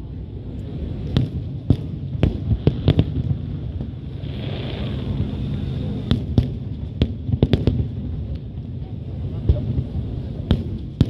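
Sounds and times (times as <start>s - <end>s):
firework bangs: 0.8s - 8.6s, 9.2s - 11.0s.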